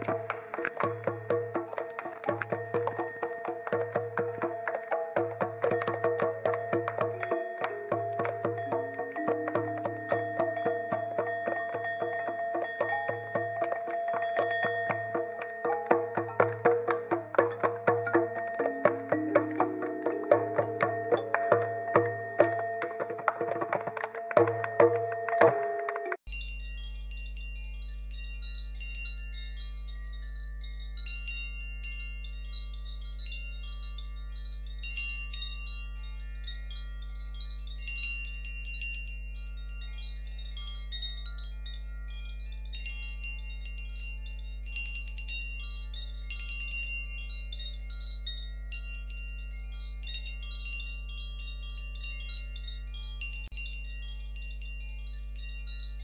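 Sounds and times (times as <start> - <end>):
wind chimes tinkling: 0.0 - 56.0.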